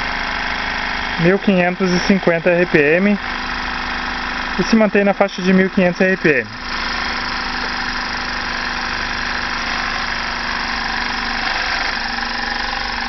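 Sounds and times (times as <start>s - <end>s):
small engine running steadily: 0.0s - 13.0s.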